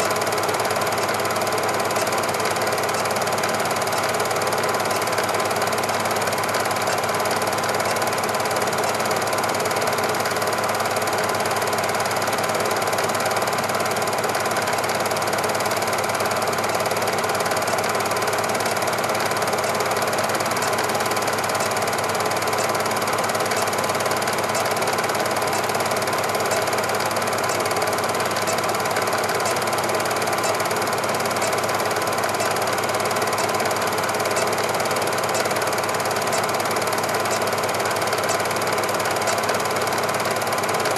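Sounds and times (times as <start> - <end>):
film projector clattering: 0.0 - 40.9.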